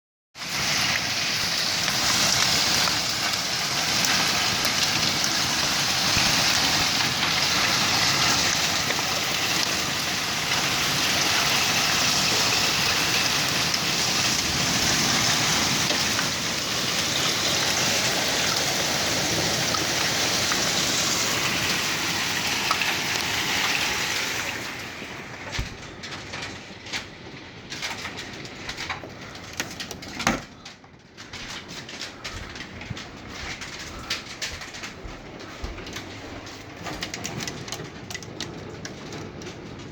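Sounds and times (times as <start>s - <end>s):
hail and rain pelting: 0.4s - 39.9s
hail taps: 0.4s - 39.9s.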